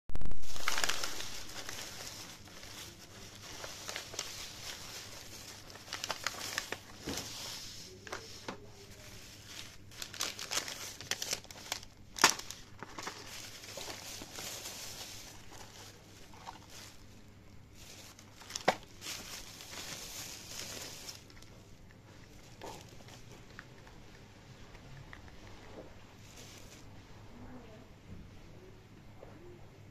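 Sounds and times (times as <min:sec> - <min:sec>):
plastic bag crinkling: 0:00.2 - 0:23.9, 0:24.6 - 0:26.9.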